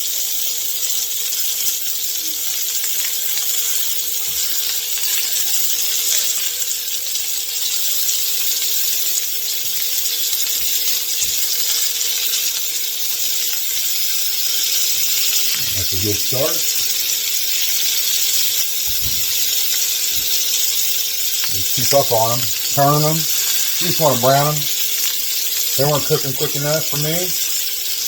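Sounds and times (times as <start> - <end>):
meat sizzling in a hot pan: 0.0 - 28.0.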